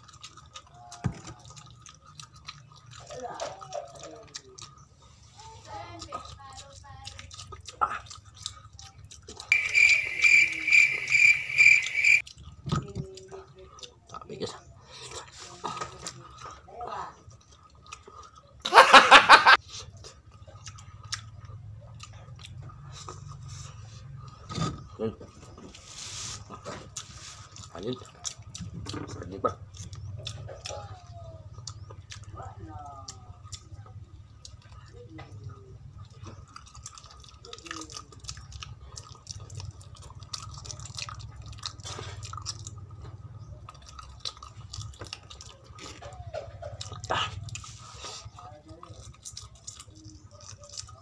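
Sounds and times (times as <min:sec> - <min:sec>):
close-up chewing: 0:00.0 - 0:18.7, 0:19.6 - 0:51.0.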